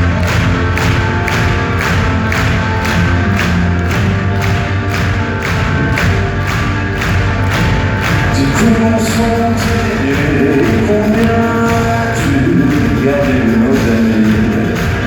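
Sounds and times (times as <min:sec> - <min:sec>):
live pop-rock band playing: 0:00.0 - 0:15.0.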